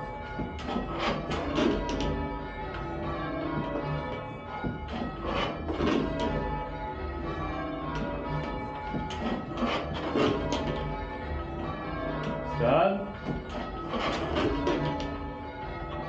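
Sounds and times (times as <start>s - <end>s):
church bells ringing: 0.0s - 16.0s.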